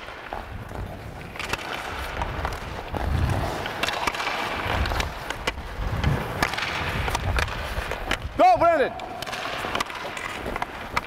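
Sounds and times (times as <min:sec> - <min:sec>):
pucks clacking on sticks: 0:00.0 - 0:11.0
skates scraping on ice: 0:00.0 - 0:11.0.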